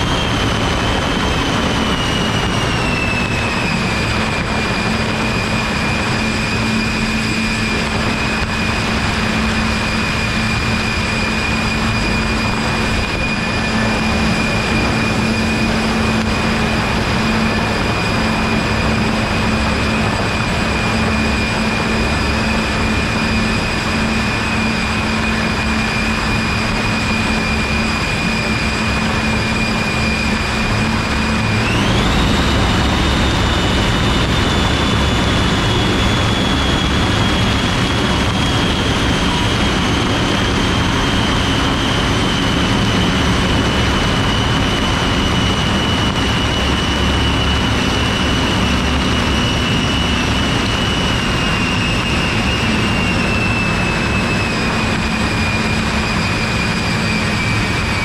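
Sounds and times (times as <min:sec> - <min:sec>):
electric fans whining: 0:00.0 - 0:58.0
rushing air: 0:00.0 - 0:58.0.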